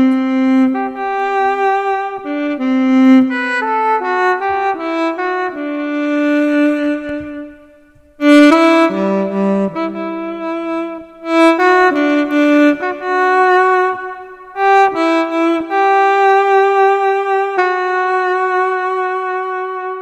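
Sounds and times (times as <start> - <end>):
saxophone melody: 0.0 - 20.0.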